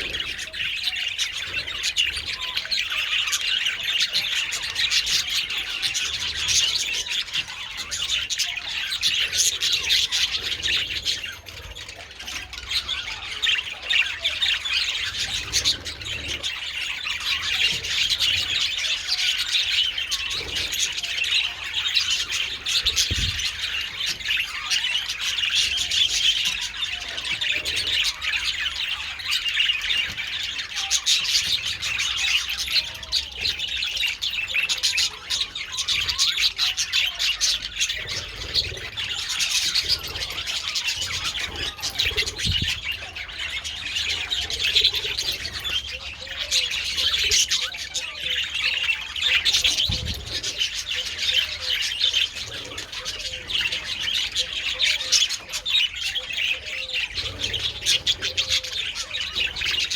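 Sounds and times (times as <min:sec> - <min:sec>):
bird squawks: 0:00.0 - 0:59.9
budgerigars chattering: 0:00.0 - 0:59.9.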